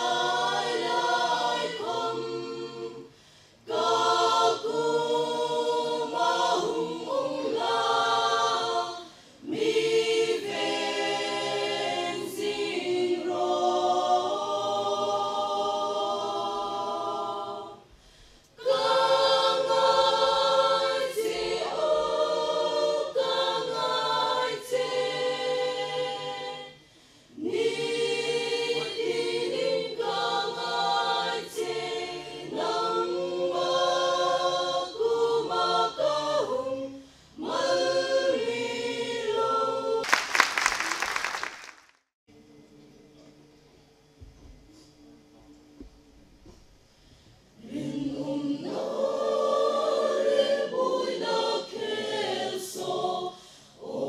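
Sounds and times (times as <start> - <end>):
mixed choir singing a cappella: 0.0 - 40.1, 47.5 - 54.0.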